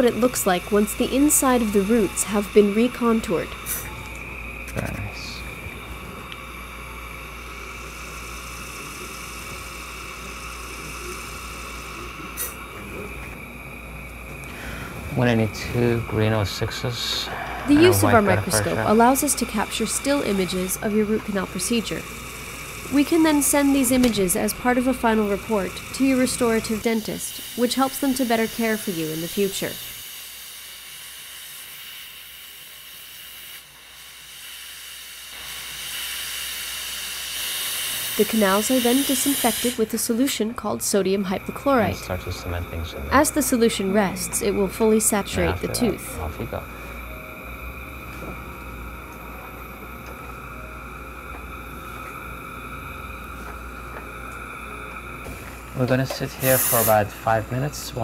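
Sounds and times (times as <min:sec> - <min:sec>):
high-pitched dental drill whir: 0:00.0 - 0:14.6, 0:17.0 - 0:58.0.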